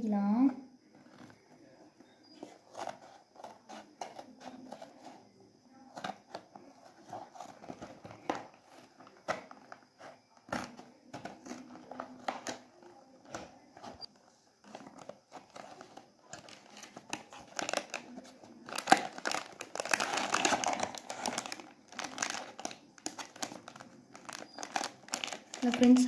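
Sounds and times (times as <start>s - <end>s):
cardboard crinkling: 1.0s - 26.0s.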